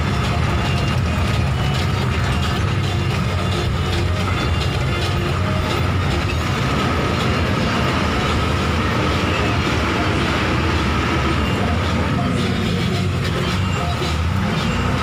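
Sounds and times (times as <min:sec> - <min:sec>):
bus engine and tyres rumbling: 0:00.0 - 0:15.0.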